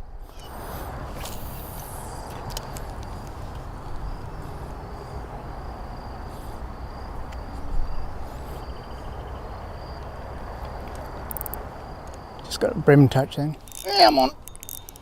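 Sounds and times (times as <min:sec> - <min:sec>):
high insect trill: 0:00.2 - 0:15.0.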